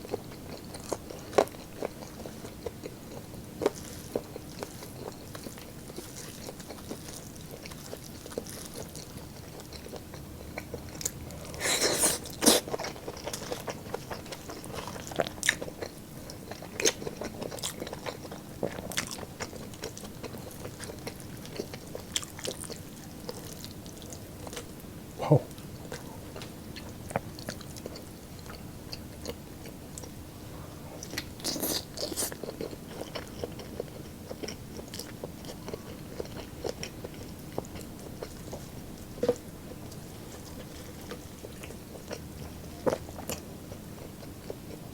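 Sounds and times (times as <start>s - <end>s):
person chewing meat: 0.0s - 30.2s, 30.9s - 44.9s.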